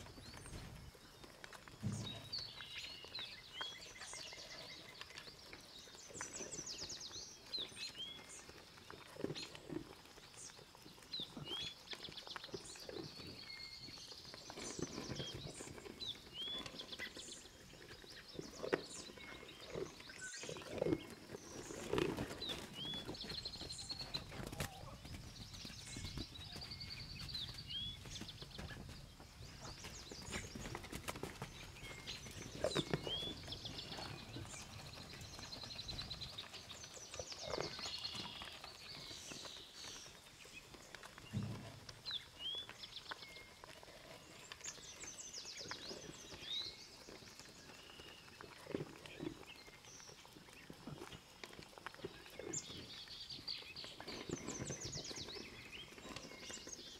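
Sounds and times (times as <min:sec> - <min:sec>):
small birds chirping and trilling: 0:00.0 - 0:56.9.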